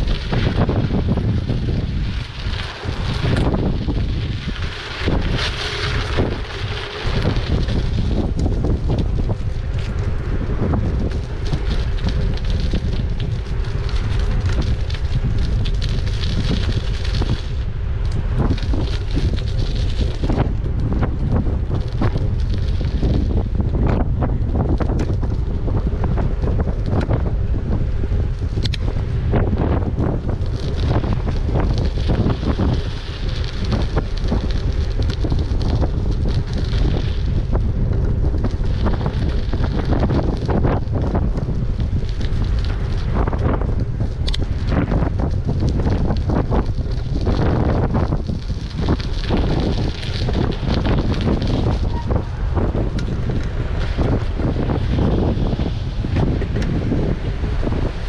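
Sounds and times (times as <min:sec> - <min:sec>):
crackles and ticks: 0:00.0 - 0:58.0
wind buffeting microphone: 0:00.0 - 0:58.0.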